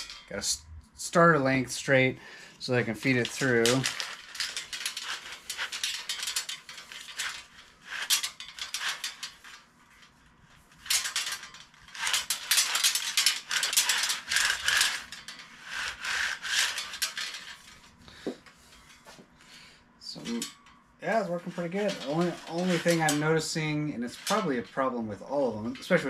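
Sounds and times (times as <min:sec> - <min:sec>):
tubing clicking over bearings: 0:00.0 - 0:19.4, 0:20.0 - 0:26.0.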